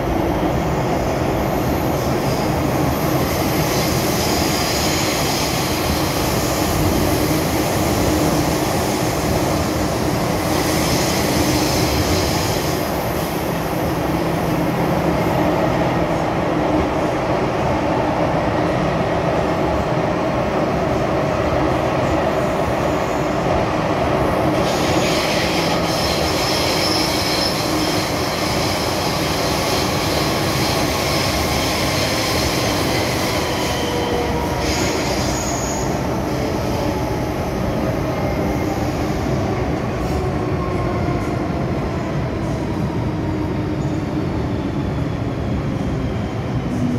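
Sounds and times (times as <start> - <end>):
metro train rumble in tunnel: 0.0 - 46.9.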